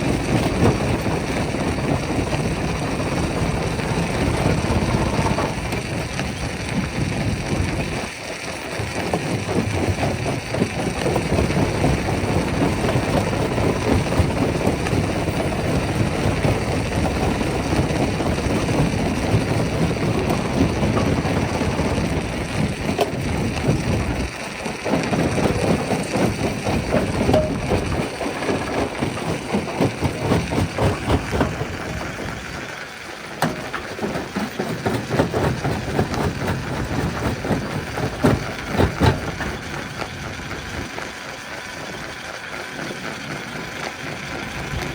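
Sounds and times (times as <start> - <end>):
rock crushing machine: 0.0 - 44.9.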